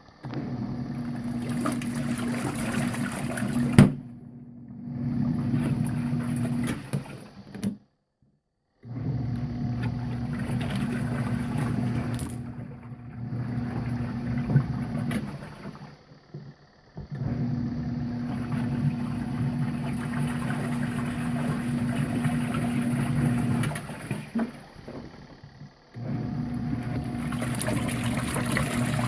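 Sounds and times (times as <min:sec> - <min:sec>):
washing machine motor hum: 0:00.0 - 0:07.8, 0:08.8 - 0:29.0
water churning in tub: 0:00.3 - 0:04.2, 0:04.8 - 0:07.3, 0:09.0 - 0:16.1, 0:17.2 - 0:29.0.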